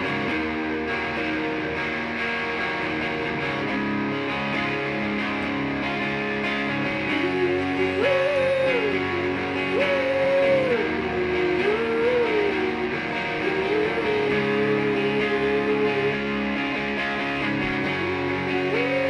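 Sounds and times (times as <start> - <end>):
strummed guitar chords: 0.0 - 19.0.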